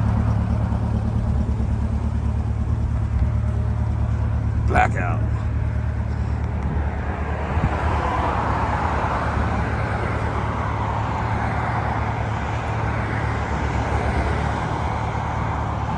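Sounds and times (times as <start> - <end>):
car engine and road noise: 0.0 - 15.9.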